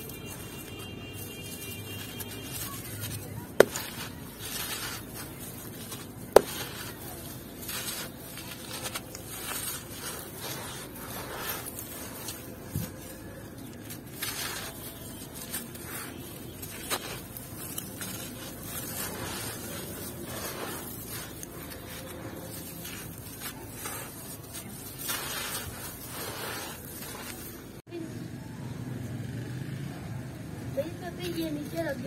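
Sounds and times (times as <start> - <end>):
crunching and crushing by hand: 0.0 - 27.8.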